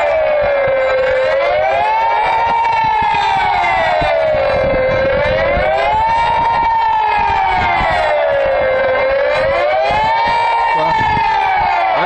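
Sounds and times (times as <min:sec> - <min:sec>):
wailing siren: 0:00.0 - 0:12.0.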